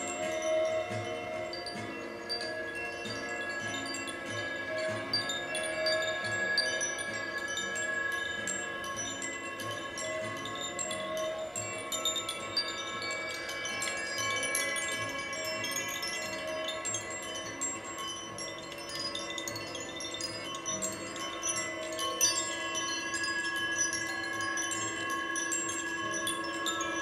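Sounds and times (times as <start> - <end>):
held drone tones: 0.0 - 27.0
low wavering tone: 0.0 - 27.0
wind chimes tinkling: 0.0 - 27.0.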